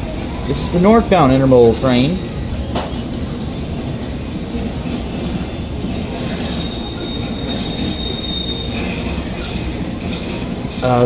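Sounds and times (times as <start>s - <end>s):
high wheel squeal: 0.0s - 11.0s
train wheels rumbling on rail: 0.0s - 11.0s.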